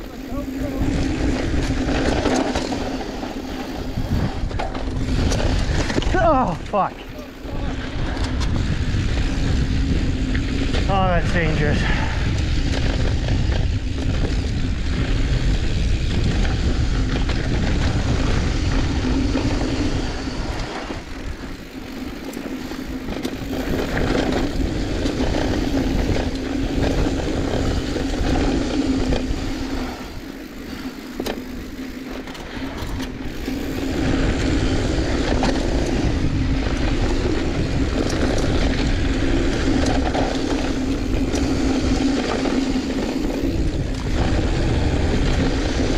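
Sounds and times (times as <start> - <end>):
bike tyres rolling on dirt: 0.0 - 45.9
wind rushing over microphone: 0.0 - 45.9.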